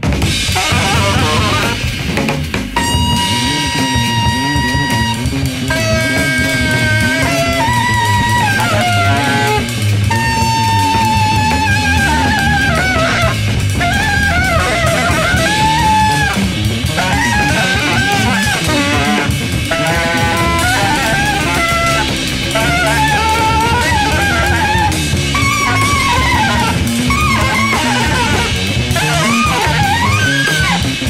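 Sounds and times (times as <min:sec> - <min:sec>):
jazz-rock band music: 0:00.0 - 0:31.0.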